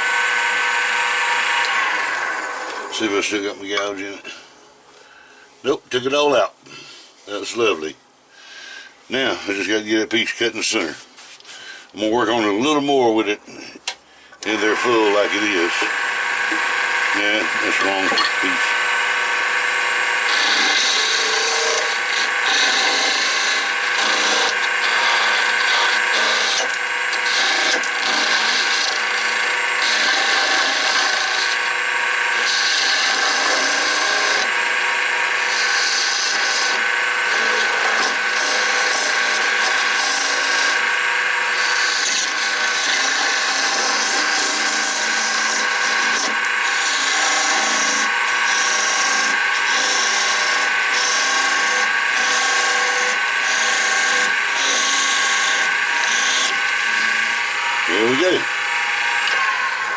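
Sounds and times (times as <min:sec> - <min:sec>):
tool scraping spinning wood: 0:00.0 - 0:04.4, 0:14.4 - 0:59.9
wood lathe motor whine: 0:00.0 - 0:04.4, 0:14.4 - 0:59.9.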